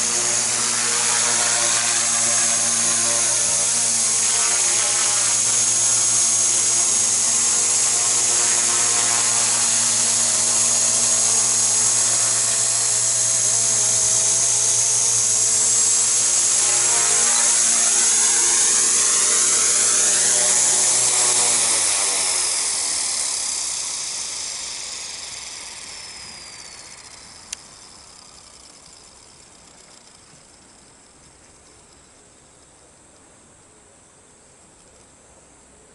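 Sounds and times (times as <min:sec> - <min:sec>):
motors spooling down: 0:00.0 - 0:32.0
rc helicopter motor whine: 0:00.0 - 0:32.6.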